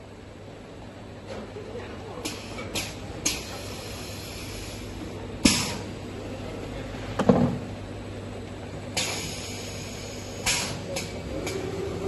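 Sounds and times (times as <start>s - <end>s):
bottling machinery humming: 0.0s - 12.0s.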